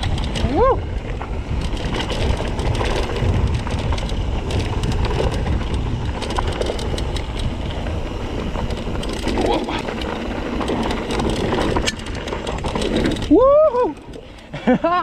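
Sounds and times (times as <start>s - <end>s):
bike rattles and clicks: 0.0s - 15.0s
bike tyres on dirt: 0.0s - 15.0s
wind rumbling on microphone: 0.0s - 15.0s.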